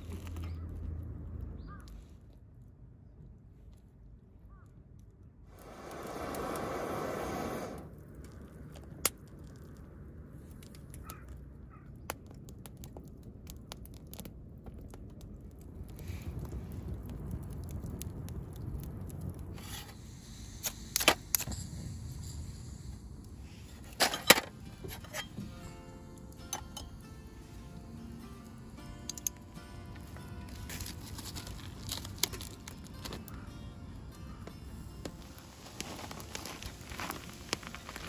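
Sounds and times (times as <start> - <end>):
wood fire crackling and popping: 5.4 - 38.0.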